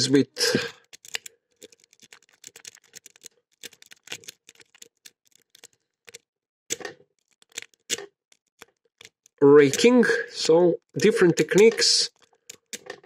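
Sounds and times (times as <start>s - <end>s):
lock pick clicking and scraping: 0.8s - 10.0s, 11.0s - 13.0s.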